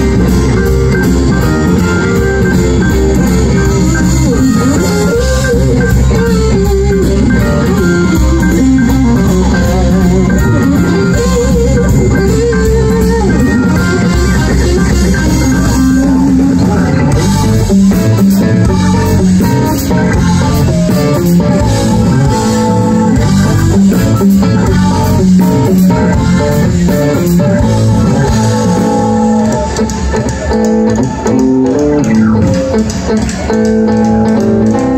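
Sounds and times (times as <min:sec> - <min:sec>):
electric guitar lead: 0:00.0 - 0:34.9
live rock band: 0:00.0 - 0:34.9.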